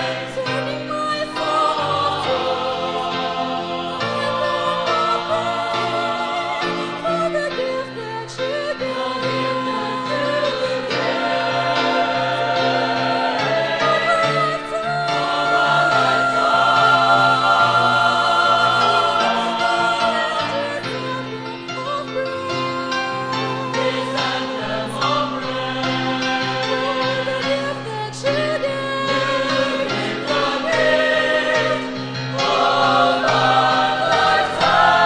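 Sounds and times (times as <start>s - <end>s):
choir singing in harmony: 0.0s - 35.0s.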